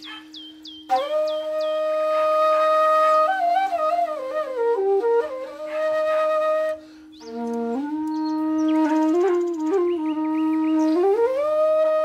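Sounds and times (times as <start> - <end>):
wind instrument melody: 0.0 - 12.0.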